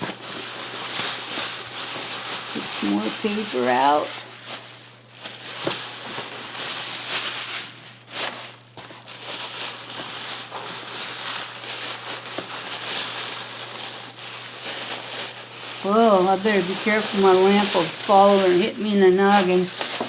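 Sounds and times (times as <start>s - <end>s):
packing paper rustling and crinkling: 0.0s - 20.0s.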